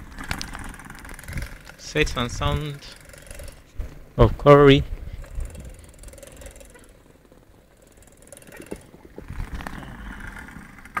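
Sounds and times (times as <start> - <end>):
low uneven street rumble: 0.0 - 11.0.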